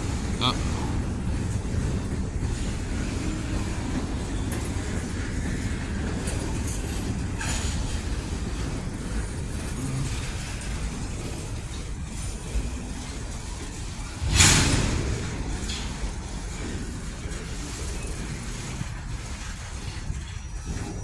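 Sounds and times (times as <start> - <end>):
freight train cars rolling: 0.0 - 21.0.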